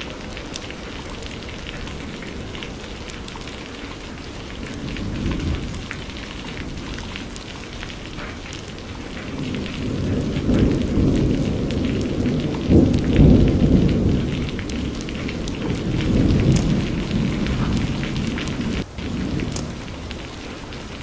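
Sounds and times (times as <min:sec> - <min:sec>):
raindrops ticking: 0:00.0 - 0:21.0
steady rain: 0:00.0 - 0:21.0
thunder rumbling: 0:00.0 - 0:21.0.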